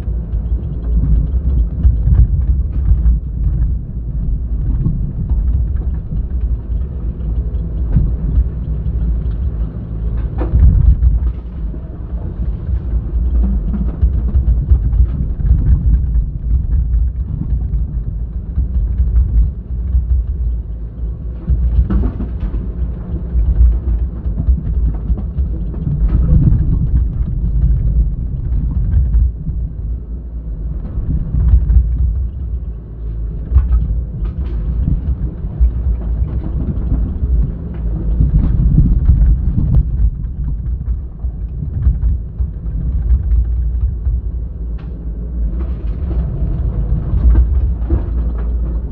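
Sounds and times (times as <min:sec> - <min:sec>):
excavator diesel engine rumbling: 0:00.0 - 0:48.9.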